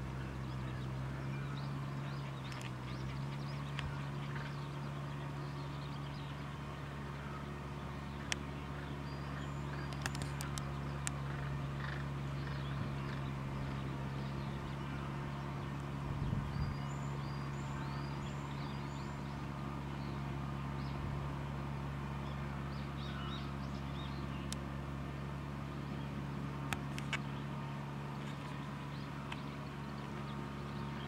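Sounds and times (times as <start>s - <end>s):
small birds chirping: 0.0s - 21.1s, 22.1s - 24.7s, 25.7s - 31.0s
steady low hum: 0.0s - 31.0s.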